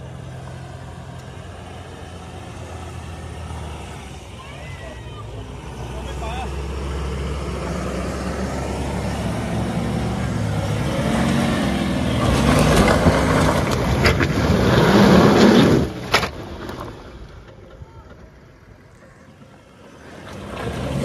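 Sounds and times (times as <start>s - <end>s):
engine revving: 0.0s - 17.0s, 19.9s - 21.0s.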